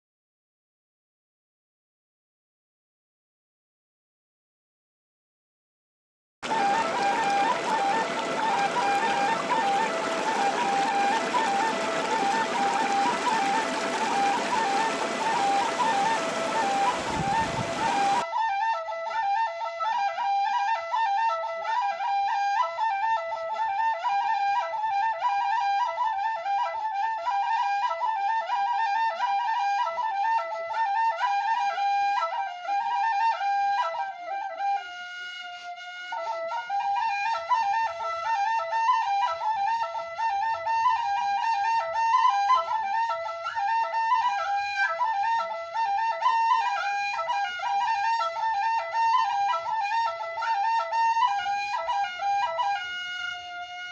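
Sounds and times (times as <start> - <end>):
solo flute melody: 6.4 - 53.9.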